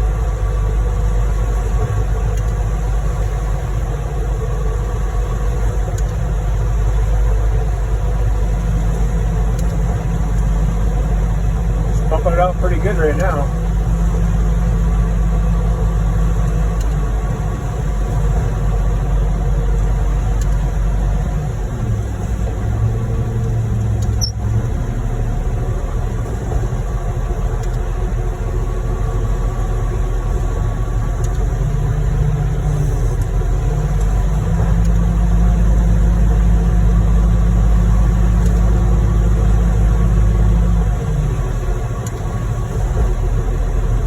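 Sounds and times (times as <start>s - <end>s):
heavy diesel engines running: 0.0s - 44.0s.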